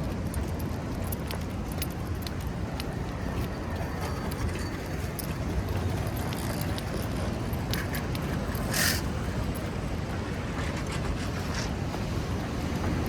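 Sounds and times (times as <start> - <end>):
light metallic jingles and clicks: 0.0 - 13.0
wind rumbling on microphone: 0.0 - 13.0.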